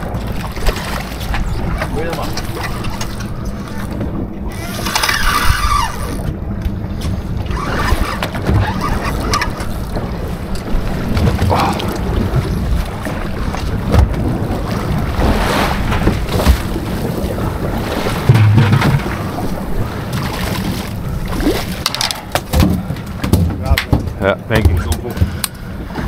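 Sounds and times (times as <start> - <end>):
boat engine droning: 0.0 - 26.0
water around hull: 0.0 - 26.0
wind buffeting microphone: 0.0 - 26.0.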